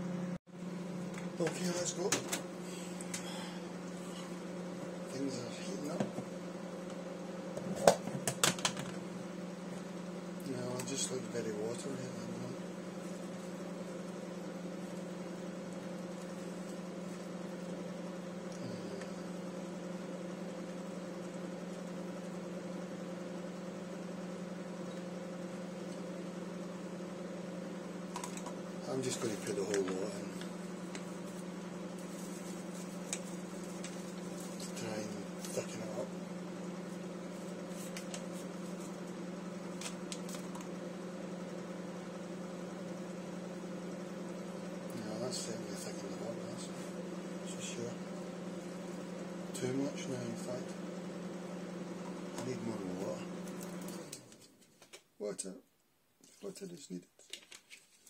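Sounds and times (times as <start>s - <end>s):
appliance electrical hum: 0.0s - 58.0s.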